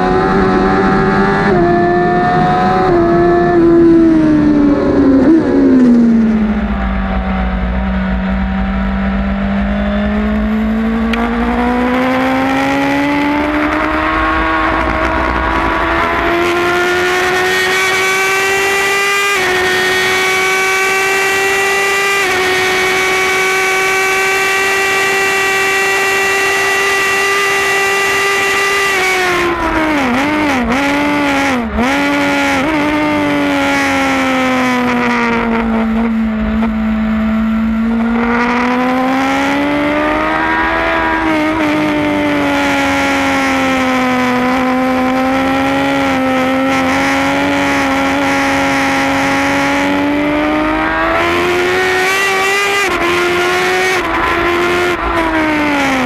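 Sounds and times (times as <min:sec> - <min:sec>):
motorcycle engine at racing speed: 0:00.0 - 0:56.0.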